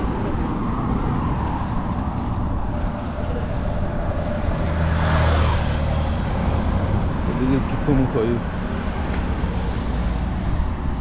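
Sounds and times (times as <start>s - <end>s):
road traffic noise: 0.0s - 11.0s
vehicle engine drone: 0.0s - 11.0s.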